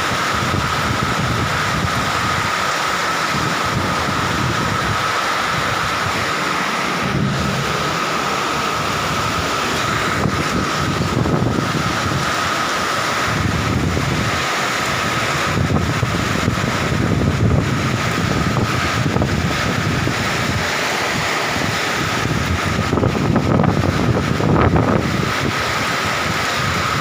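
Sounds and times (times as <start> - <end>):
heavy rain pouring: 0.0 - 27.0
wind gusting on microphone: 0.0 - 27.0.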